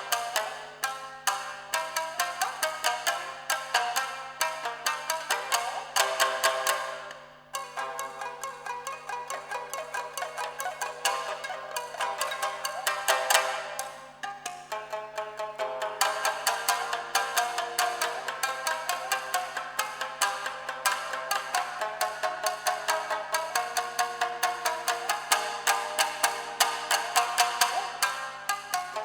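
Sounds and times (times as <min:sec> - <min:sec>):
shamisen fast percussive strumming: 0:00.0 - 0:29.0.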